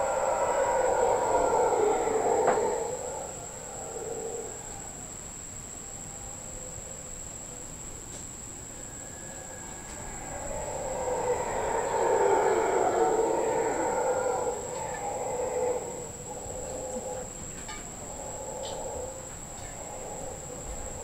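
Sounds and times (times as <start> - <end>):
howler monkeys howling: 0.0 - 21.0.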